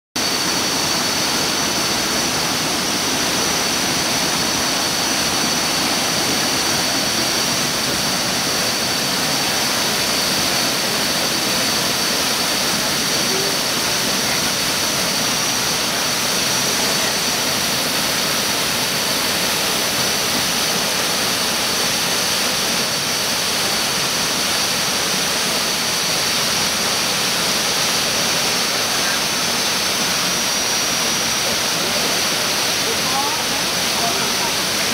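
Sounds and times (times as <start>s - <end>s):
thin high whine: 0.2s - 34.9s
waterfall rushing: 0.2s - 34.9s.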